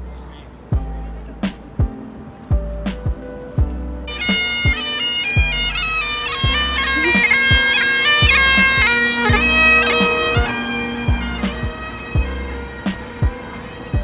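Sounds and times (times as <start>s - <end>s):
bass drum beats: 0.7s - 4.8s, 5.4s - 13.4s.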